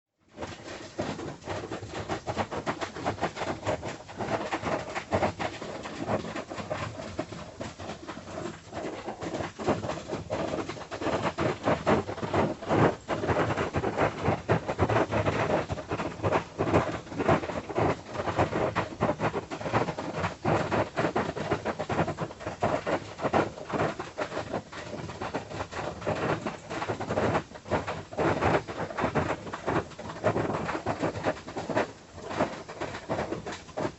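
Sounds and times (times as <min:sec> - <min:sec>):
rain on a tin roof: 0:00.2 - 0:33.9.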